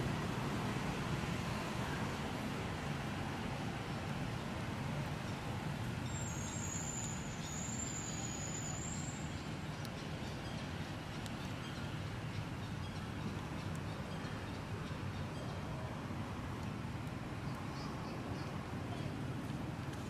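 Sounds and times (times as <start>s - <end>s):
low rumble with hiss: 0.0s - 20.0s.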